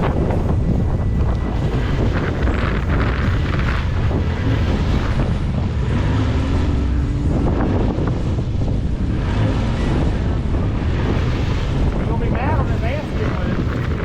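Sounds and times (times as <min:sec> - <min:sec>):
engine low rumble: 0:00.0 - 0:14.0
wind buffeting microphone: 0:00.0 - 0:14.0.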